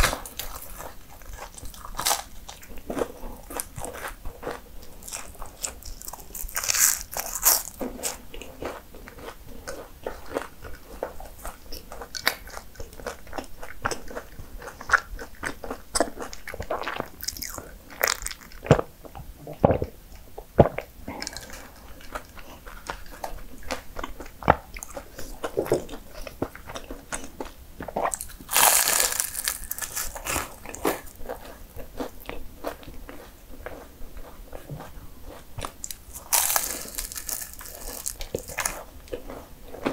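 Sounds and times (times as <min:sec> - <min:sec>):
crunching and chewing pastry: 0:00.0 - 0:39.9.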